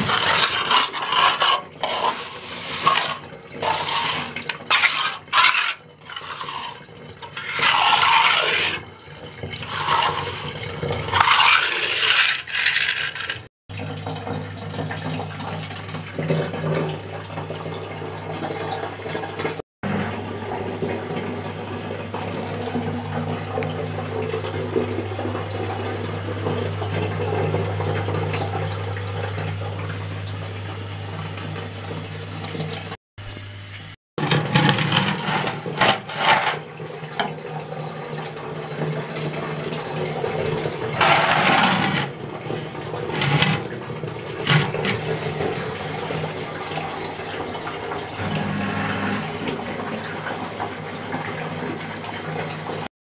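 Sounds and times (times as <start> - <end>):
water rushing and gurgling in pipe: 0.0 - 32.6, 34.2 - 52.9
water pump humming: 0.0 - 52.9.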